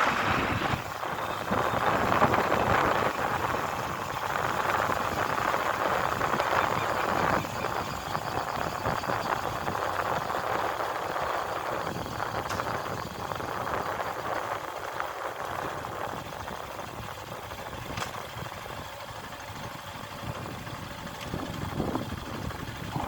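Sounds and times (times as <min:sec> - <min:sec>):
vehicle running: 0:00.0 - 0:23.0
wind noise on microphone: 0:00.0 - 0:23.0.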